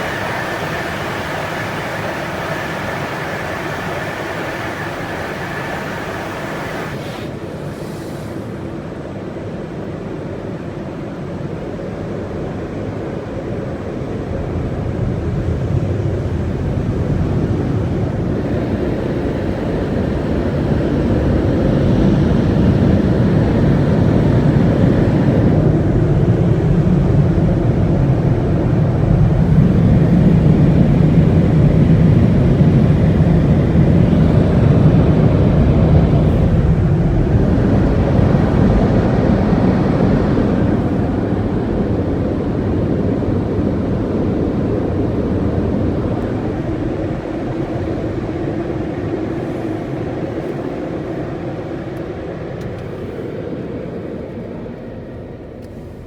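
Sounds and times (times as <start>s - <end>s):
car wash dryers blowing air: 0.0s - 56.0s.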